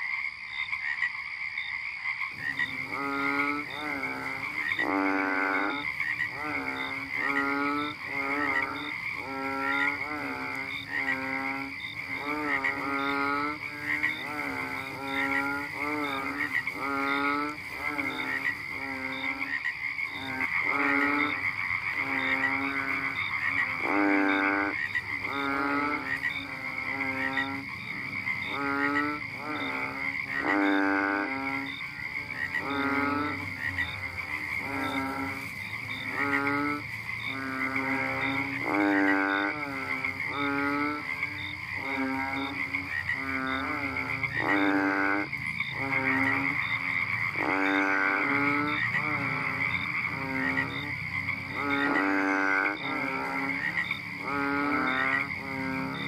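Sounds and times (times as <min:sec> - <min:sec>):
toad croaking: 0:00.0 - 0:56.0.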